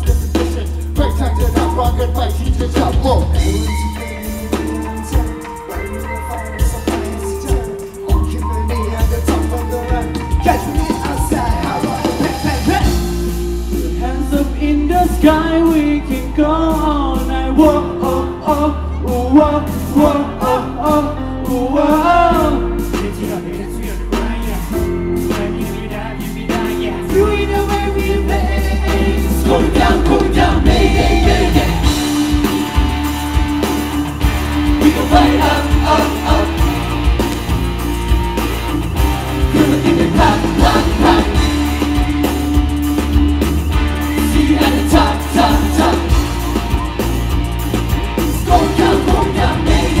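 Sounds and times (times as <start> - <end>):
male group singing: 0.0 - 32.9, 34.6 - 37.3, 39.4 - 42.2, 44.0 - 46.6, 48.3 - 50.0
rock band playing: 0.0 - 50.0.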